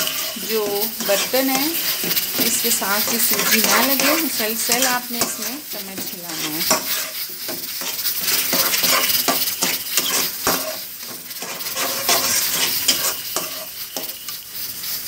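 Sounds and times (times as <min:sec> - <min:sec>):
ghee sizzling: 0:00.0 - 0:15.0
metal spoon scraping pan: 0:00.0 - 0:15.0.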